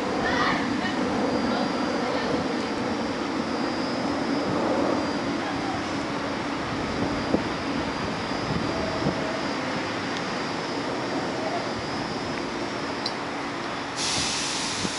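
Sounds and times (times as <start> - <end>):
subway train hum and rumble: 0.0 - 14.9.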